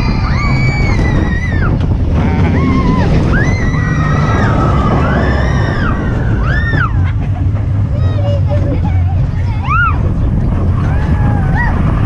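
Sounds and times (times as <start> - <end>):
roller coaster rumbling on track: 0.0 - 12.0
wheels squealing: 0.0 - 12.0.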